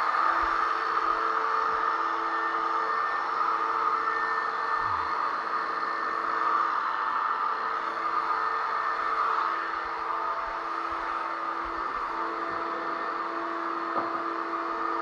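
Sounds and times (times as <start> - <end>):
electric sander whirring: 0.0 - 15.0.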